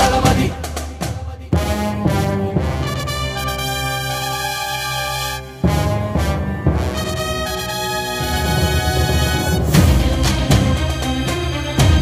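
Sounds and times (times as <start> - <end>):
music with a beat: 0.0 - 3.9, 5.7 - 12.0.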